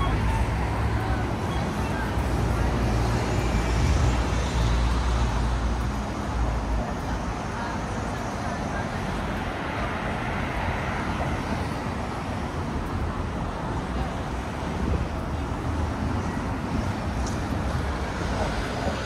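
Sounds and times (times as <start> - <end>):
faint voices: 0.0 - 19.0
passing traffic rumble: 0.0 - 19.0.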